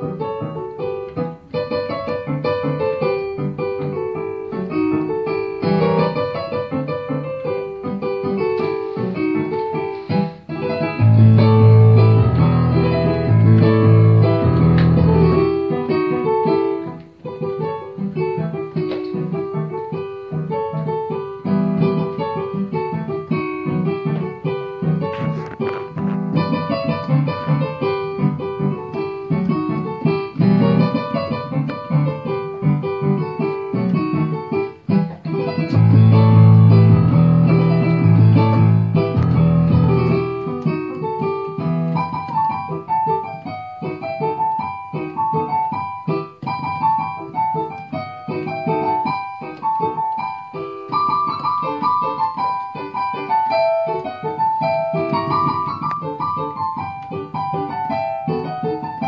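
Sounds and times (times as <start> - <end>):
piano folk dance music: 0.0 - 59.0.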